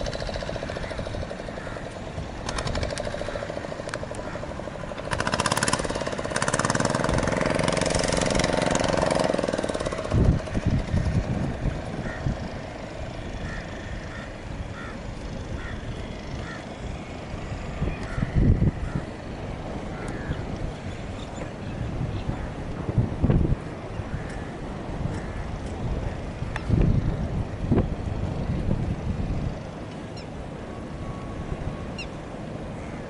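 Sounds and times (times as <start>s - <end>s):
boat engine chugging: 0.0s - 33.0s
wind gusts on microphone: 0.0s - 33.0s.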